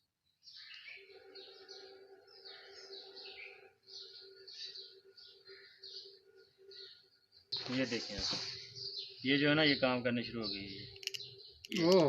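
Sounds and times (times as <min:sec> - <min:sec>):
faint steady hum: 0:00.0 - 0:12.0
small birds chirping: 0:00.0 - 0:12.0.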